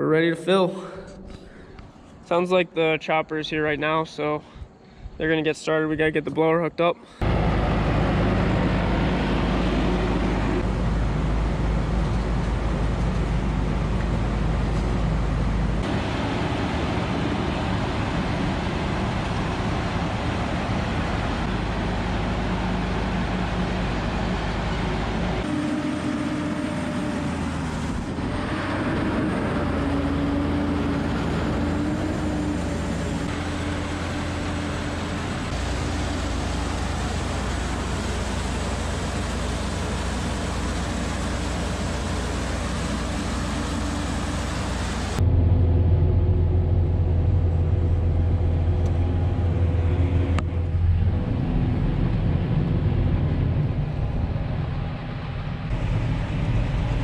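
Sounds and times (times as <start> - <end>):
diesel farm machinery running: 7.1 - 57.0.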